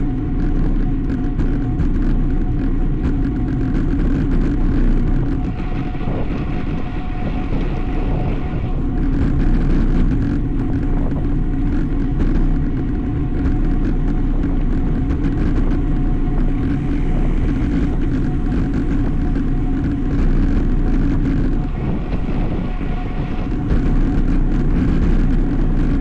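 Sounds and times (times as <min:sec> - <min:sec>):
bike tyre road noise: 0:00.0 - 0:26.0
wind on microphone: 0:00.0 - 0:26.0.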